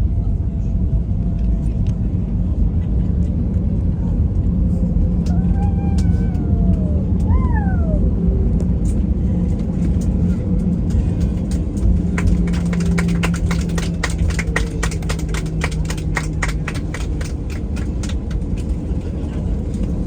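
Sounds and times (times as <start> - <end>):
airliner engines and wheels rumbling: 0.0 - 20.0.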